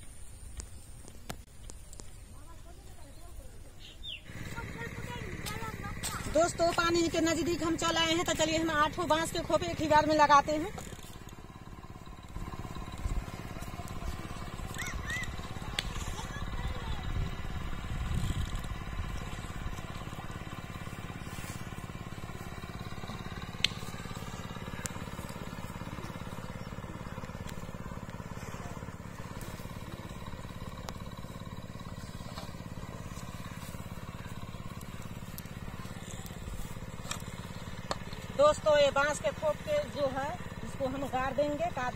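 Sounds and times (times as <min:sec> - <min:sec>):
distant engine drone: 0:00.0 - 0:41.9.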